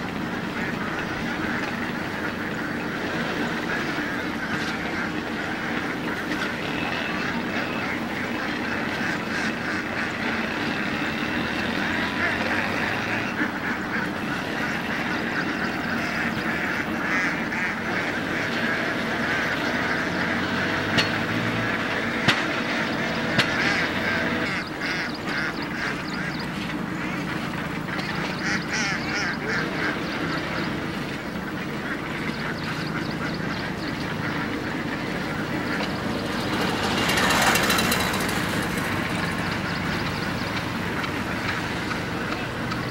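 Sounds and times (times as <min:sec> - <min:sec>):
flock of ducks quacking: 0:00.0 - 0:42.9.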